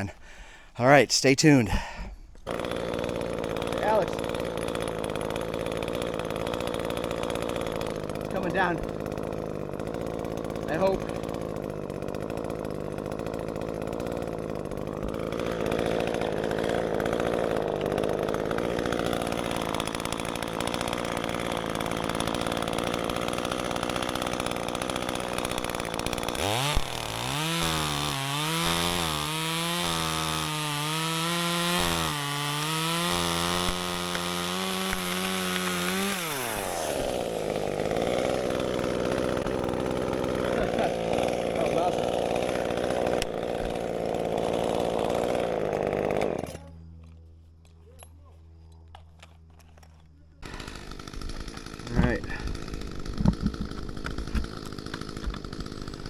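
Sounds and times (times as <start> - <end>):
chainsaw idling and cutting: 0.0 - 56.0.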